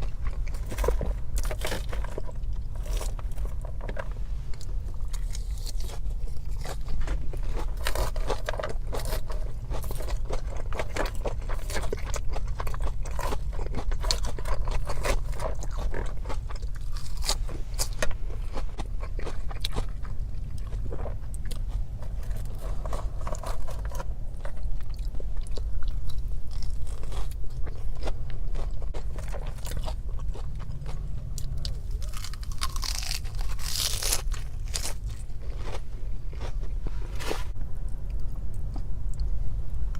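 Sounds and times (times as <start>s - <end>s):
person chewing crunchy food: 0.0s - 39.9s
steady low hum: 0.0s - 39.9s.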